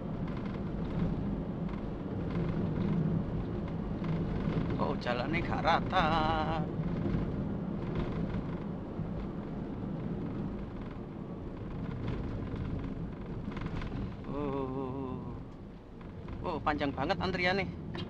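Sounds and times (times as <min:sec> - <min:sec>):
car road noise in cabin: 0:00.0 - 0:18.0.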